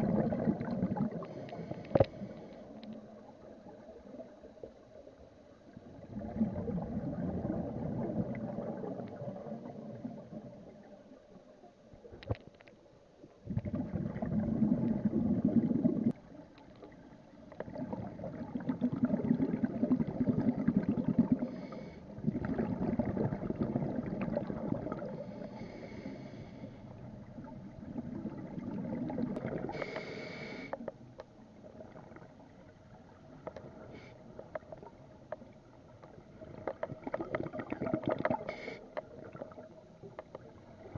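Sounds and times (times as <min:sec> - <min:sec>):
underwater bubbles gurgling: 0:00.0 - 0:40.9.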